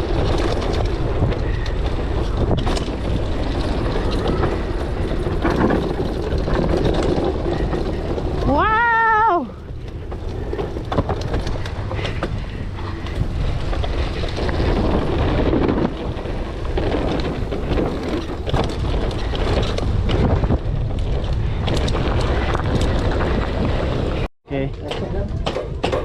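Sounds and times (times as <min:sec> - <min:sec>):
tyre noise on dirt: 0:00.0 - 0:24.3
wind buffeting microphone: 0:00.0 - 0:24.3
bike knocks and rattles: 0:00.0 - 0:26.0.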